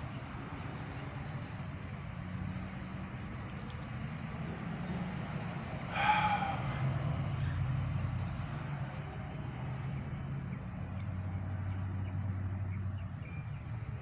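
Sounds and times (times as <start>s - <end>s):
passing car engines humming: 0.0s - 14.0s.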